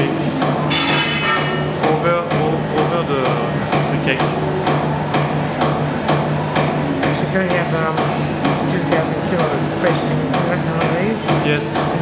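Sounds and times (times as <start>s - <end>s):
press machine humming and knocking: 0.0s - 12.0s.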